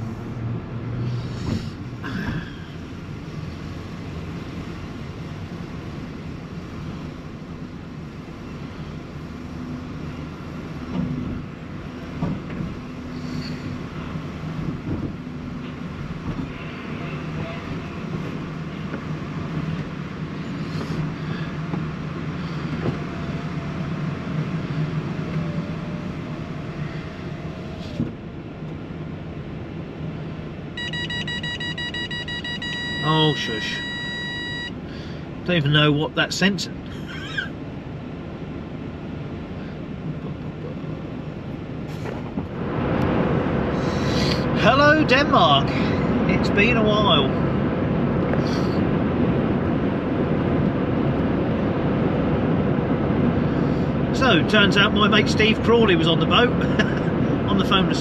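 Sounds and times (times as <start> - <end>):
car engine and tyre hum: 0.0 - 58.0.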